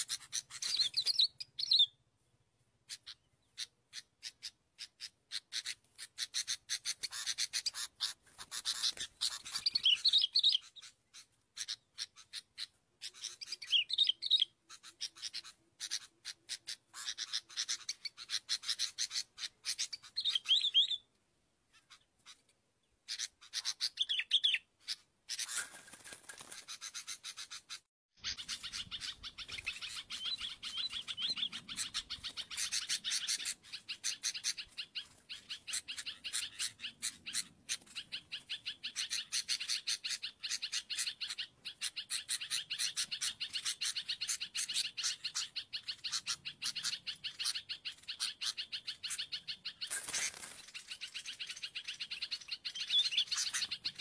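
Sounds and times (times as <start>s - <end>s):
birds chirping rapidly: 0.0s - 54.0s.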